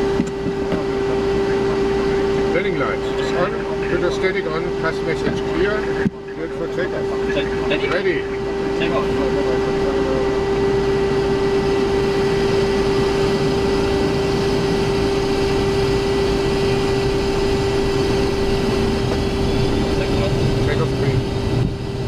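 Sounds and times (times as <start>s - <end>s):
jet engines heard in cockpit: 0.0s - 22.0s.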